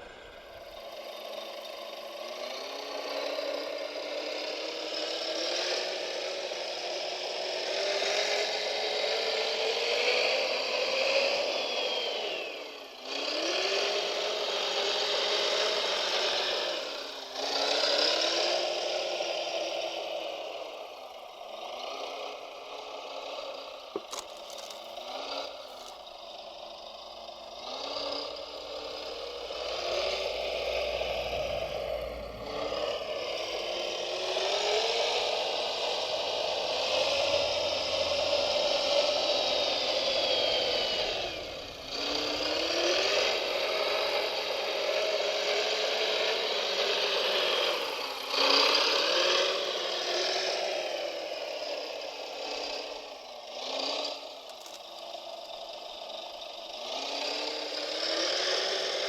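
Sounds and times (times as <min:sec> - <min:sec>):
small electric motors whining: 0:00.0 - 0:59.0.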